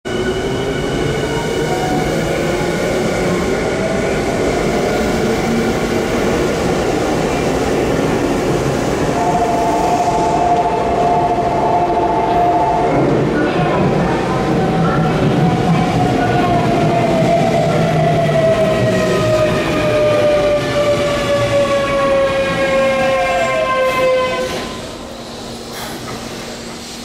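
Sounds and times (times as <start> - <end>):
train wheels rumbling on rails: 0.1 - 27.0.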